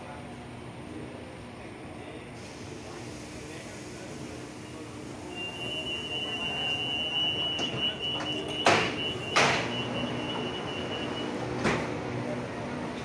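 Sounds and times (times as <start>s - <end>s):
train coaches rumbling: 0.0s - 13.0s.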